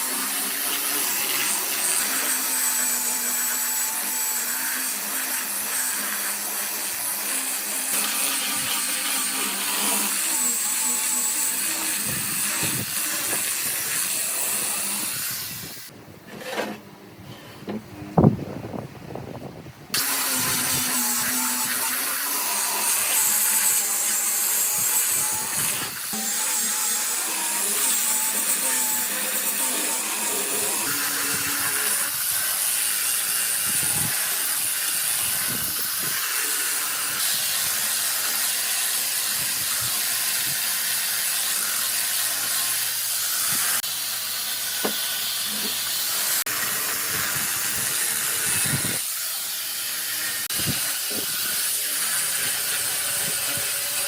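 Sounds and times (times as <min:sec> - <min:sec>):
woodworking power tools running: 0:00.0 - 0:15.9, 0:19.9 - 0:54.0.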